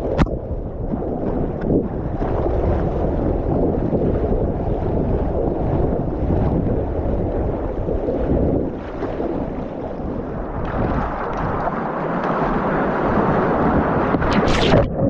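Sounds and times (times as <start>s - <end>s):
water splashing along kayak hull: 0.0s - 15.0s
wind buffeting microphone: 0.0s - 15.0s.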